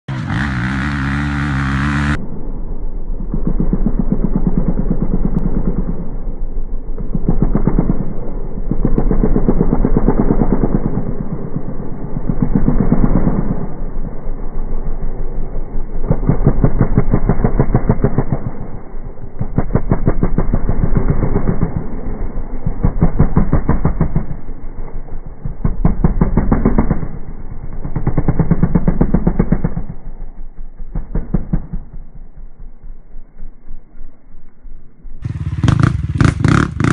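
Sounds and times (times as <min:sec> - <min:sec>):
motorcycle engine revving: 0:00.0 - 0:02.4, 0:03.0 - 0:36.9.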